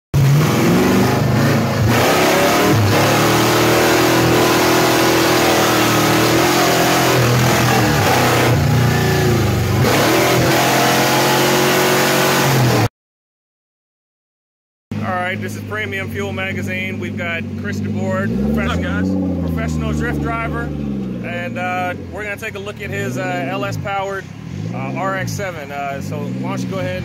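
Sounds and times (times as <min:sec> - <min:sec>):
car engine revving hard: 0:00.2 - 0:12.9, 0:15.3 - 0:27.0.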